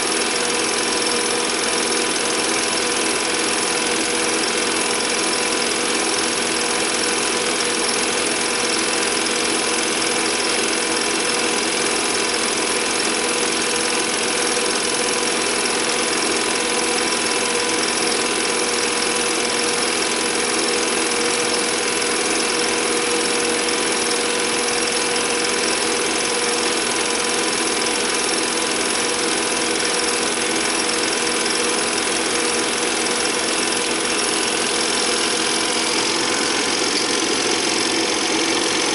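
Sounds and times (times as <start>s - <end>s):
film projector clattering: 0.0s - 38.9s.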